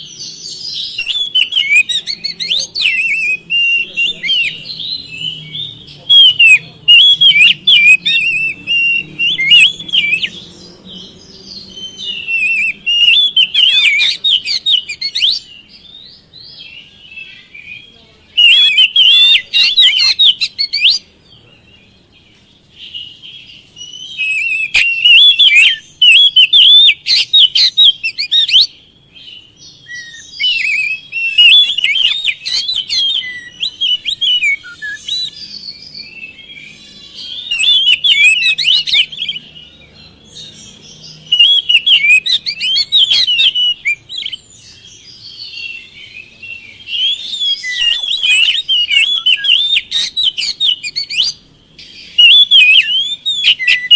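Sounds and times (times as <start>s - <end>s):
bird singing whistled phrases: 0.0s - 21.1s, 22.9s - 39.6s, 40.3s - 53.9s.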